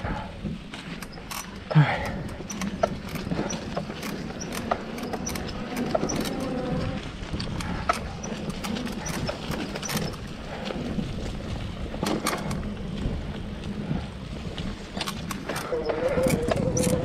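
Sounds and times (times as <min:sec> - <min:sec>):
bike rattling over trail: 0:00.0 - 0:17.0
tyres rumbling on dirt: 0:00.0 - 0:17.0.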